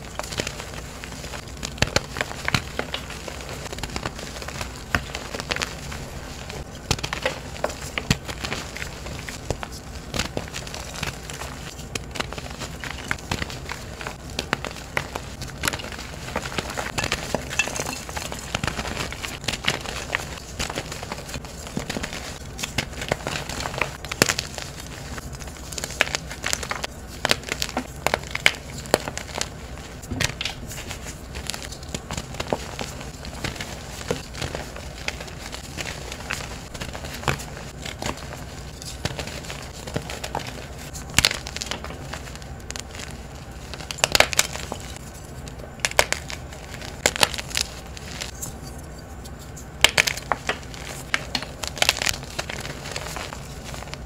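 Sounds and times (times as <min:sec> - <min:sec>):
chalk crunching and crumbling: 0:00.0 - 0:54.0.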